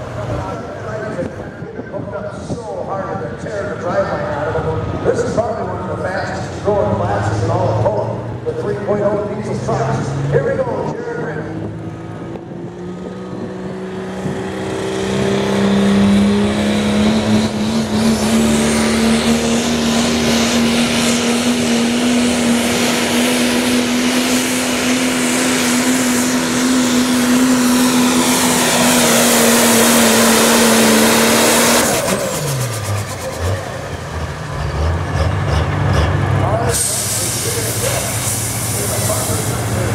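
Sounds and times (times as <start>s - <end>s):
diesel truck engine at high revs: 0.0s - 39.9s.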